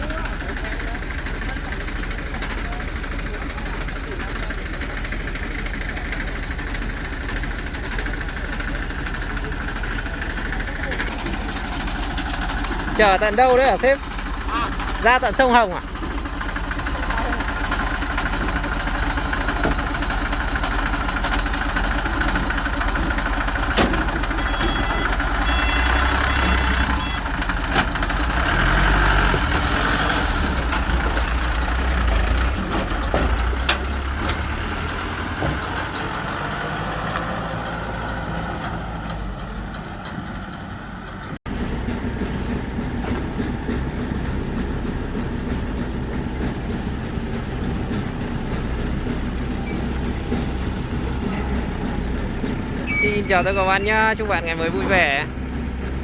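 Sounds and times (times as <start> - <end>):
heavy vehicle engines rumbling: 0.0 - 56.0
steady engine sound: 0.0 - 56.0.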